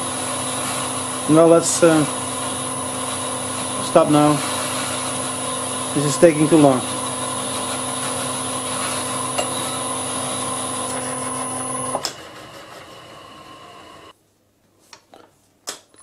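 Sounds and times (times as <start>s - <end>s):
metal lathe motor and gear hum: 0.0s - 14.1s
lathe click: 0.5s - 13.9s.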